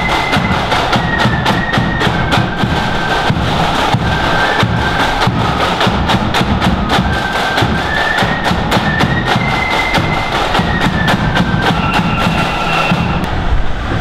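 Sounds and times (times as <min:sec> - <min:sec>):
bass drum: 0:00.0 - 0:13.4
rapid snare drum strokes: 0:00.0 - 0:13.5
flutes playing melody: 0:00.0 - 0:13.6.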